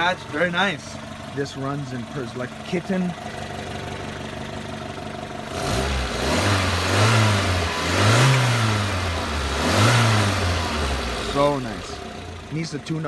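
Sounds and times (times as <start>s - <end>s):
pickup engine idling and revving: 0.0s - 13.0s.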